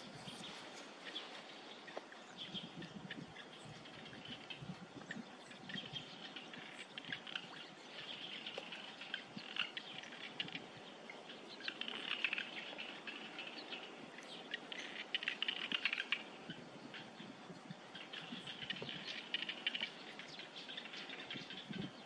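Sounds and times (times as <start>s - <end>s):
small birds chattering: 0.0s - 22.0s.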